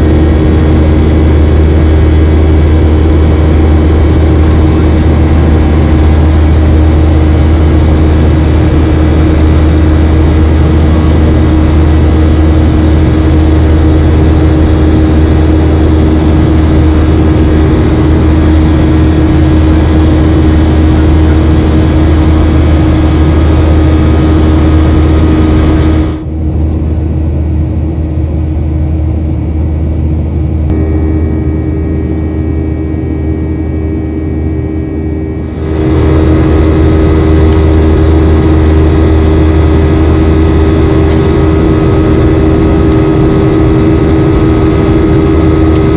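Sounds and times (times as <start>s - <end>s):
jet engine cabin drone: 0.0s - 45.9s.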